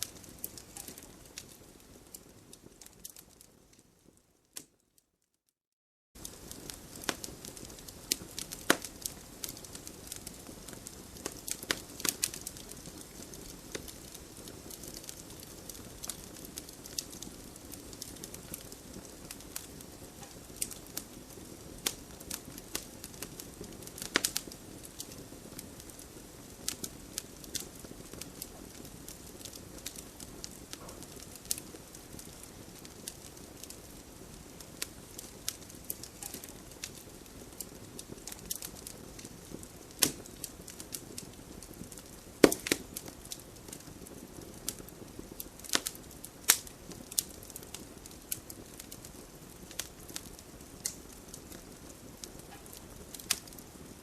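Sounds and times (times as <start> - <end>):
campfire crackling and popping: 0.0 - 4.8, 6.2 - 54.0.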